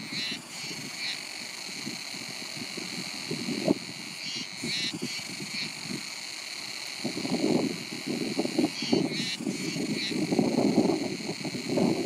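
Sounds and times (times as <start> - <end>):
wind buffeting microphone: 0.0 - 6.2, 6.9 - 12.0.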